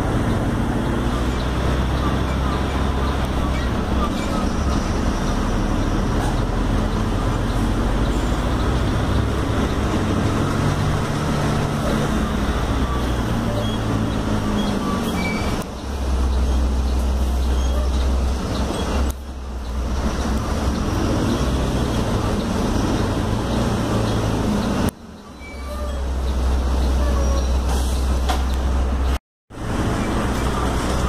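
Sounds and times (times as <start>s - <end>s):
bus diesel engine under load: 0.0s - 31.0s.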